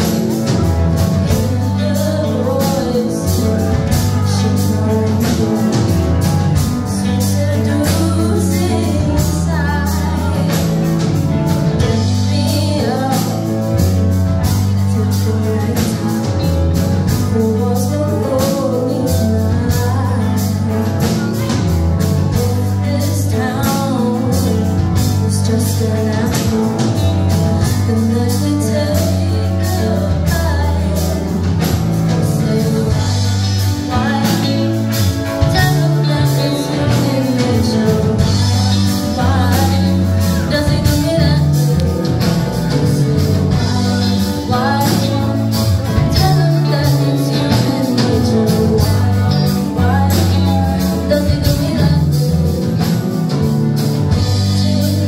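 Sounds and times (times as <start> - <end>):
electric guitar: 0.0 - 55.0
heavy bass line: 0.0 - 55.0
person singing: 0.0 - 55.0
steady drum beat: 0.0 - 55.0.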